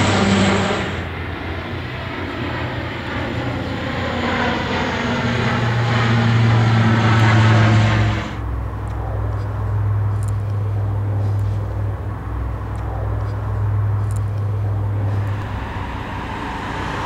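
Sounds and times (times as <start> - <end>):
propeller plane flying overhead: 0.0 - 17.0
steady low drone: 0.0 - 17.0.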